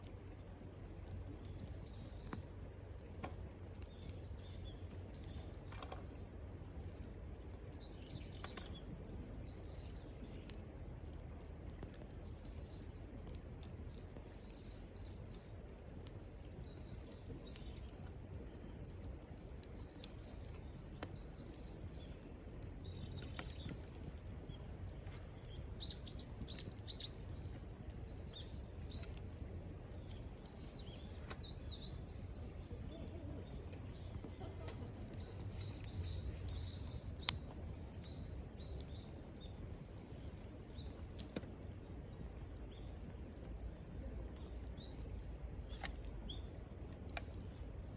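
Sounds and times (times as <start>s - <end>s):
campfire crackling and popping: 0.0s - 47.9s
birds chirping: 0.1s - 47.9s.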